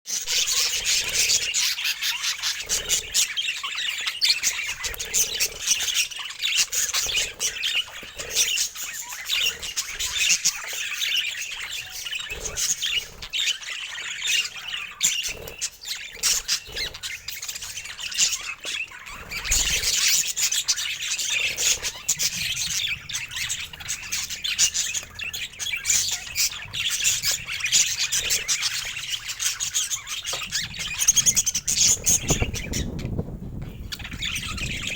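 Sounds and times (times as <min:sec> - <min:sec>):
budgerigar chatter: 0:00.1 - 0:34.9.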